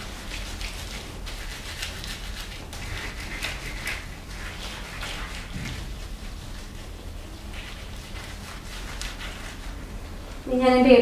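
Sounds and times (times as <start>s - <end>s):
gloved hands rubbing together: 0.0s - 10.5s.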